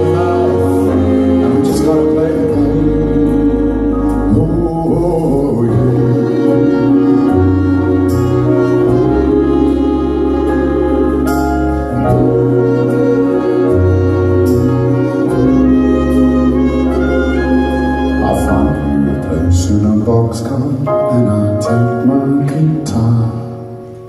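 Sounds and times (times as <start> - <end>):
live band playing soul ballad: 0.0 - 24.0.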